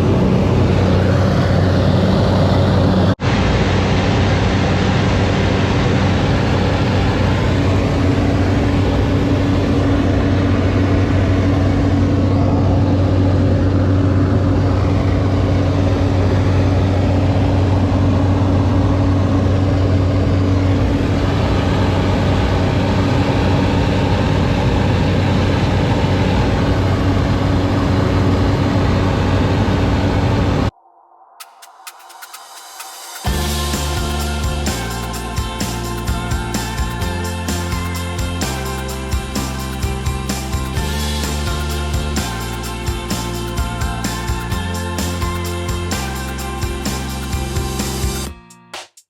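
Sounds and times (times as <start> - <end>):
plane engine drone from cabin: 0.0 - 48.2.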